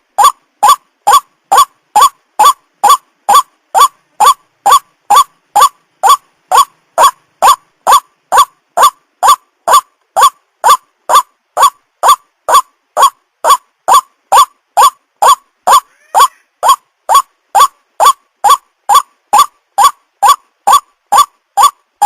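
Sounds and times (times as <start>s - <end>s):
waterhen calling: 0.2s - 21.8s.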